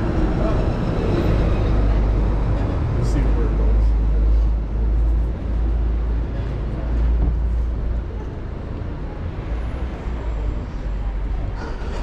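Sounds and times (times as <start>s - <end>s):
faint voices of passers-by: 0.0s - 12.0s
road traffic rumble: 0.0s - 12.0s.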